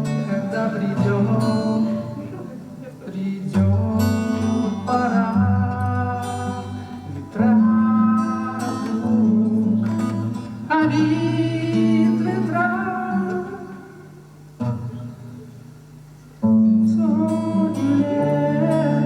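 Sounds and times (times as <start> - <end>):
person singing: 0.0 - 14.1, 16.8 - 19.0
acoustic guitar strumming: 0.0 - 19.0.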